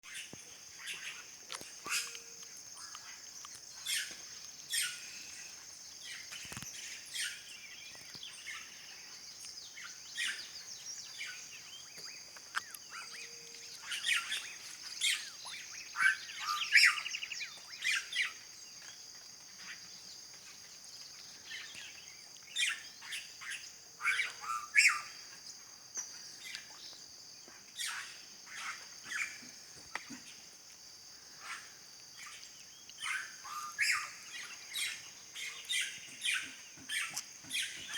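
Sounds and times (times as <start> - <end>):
bird calls: 0.0 - 25.4, 31.2 - 37.9
high-pitched insect chorus: 0.1 - 37.9.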